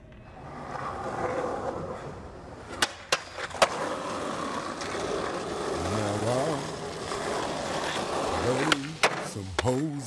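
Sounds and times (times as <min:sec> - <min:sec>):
skateboard wheels rolling on asphalt: 0:00.0 - 0:10.0
skateboard clacking: 0:00.1 - 0:10.0.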